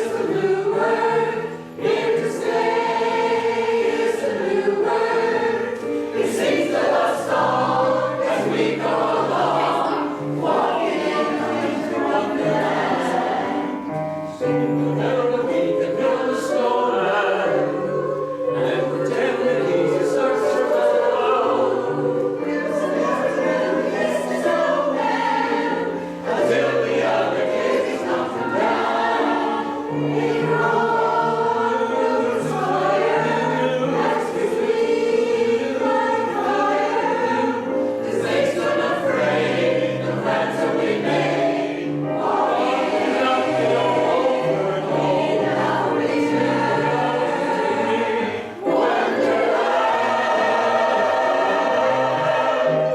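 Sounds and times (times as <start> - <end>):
choir singing in parts: 0.0 - 52.9.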